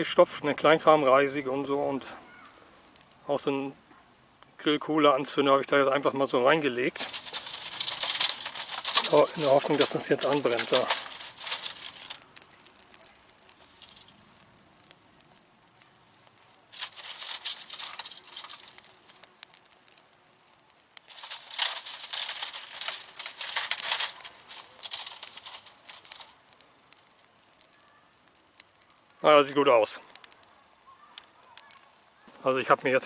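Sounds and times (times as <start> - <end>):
brushwood fire crackling: 0.0 - 33.0.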